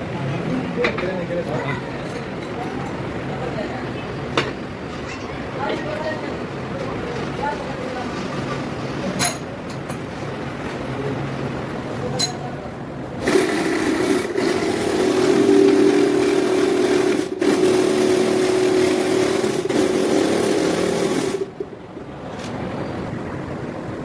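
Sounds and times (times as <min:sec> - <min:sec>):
workshop machine humming: 0:00.0 - 0:24.0.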